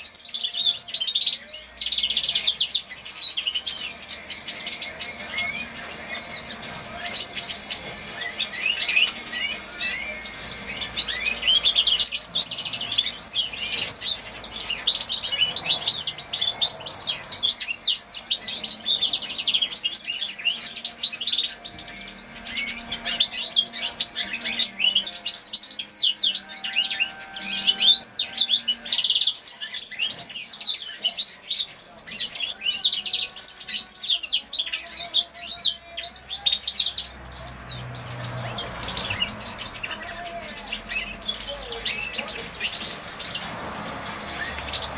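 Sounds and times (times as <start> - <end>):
finch singing high trills: 0.0 - 44.9.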